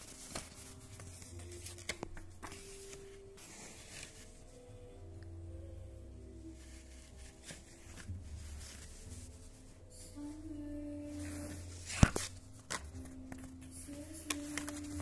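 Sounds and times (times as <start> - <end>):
paper rustling: 0.0 - 4.5, 6.6 - 10.4, 11.1 - 15.0
faint melody of held notes: 0.0 - 15.0.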